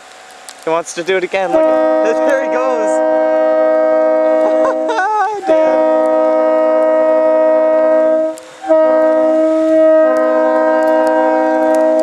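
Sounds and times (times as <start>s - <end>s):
locomotive air horn chord: 1.5s - 12.0s.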